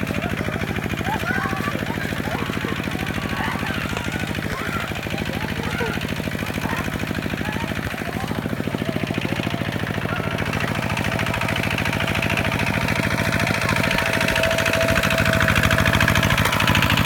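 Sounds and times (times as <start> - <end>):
tractor diesel engine chugging: 0.0 - 17.0.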